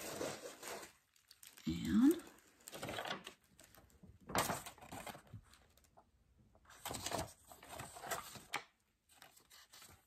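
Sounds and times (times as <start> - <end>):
paper packaging crinkling: 0.0 - 6.0, 6.7 - 10.0.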